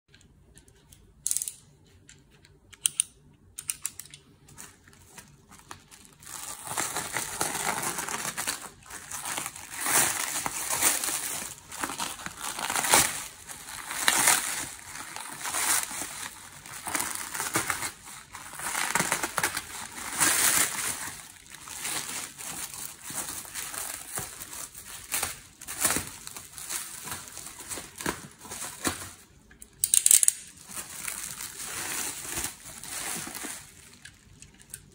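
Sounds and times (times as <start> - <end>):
plastic wrap crinkling: 4.5 - 29.4, 30.0 - 34.9.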